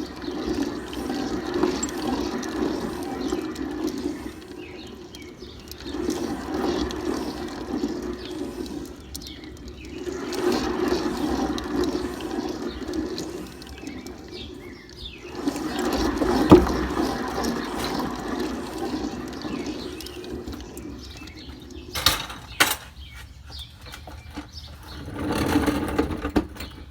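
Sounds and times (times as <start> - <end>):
rear axle droning: 0.0 - 26.9.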